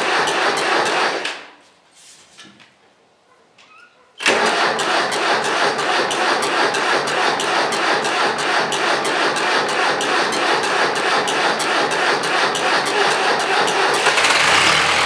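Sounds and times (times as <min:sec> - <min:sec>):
diesel engine cranking: 0:00.0 - 0:01.4, 0:04.2 - 0:15.0.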